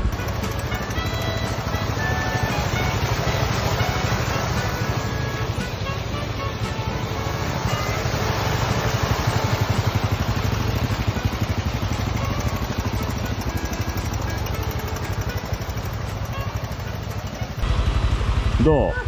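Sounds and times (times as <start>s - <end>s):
shallow stream rushing: 0.0s - 18.6s
small motorcycle engine idling: 0.0s - 19.0s.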